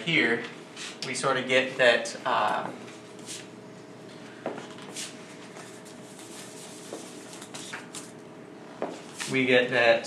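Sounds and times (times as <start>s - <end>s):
room hum: 0.0s - 10.0s.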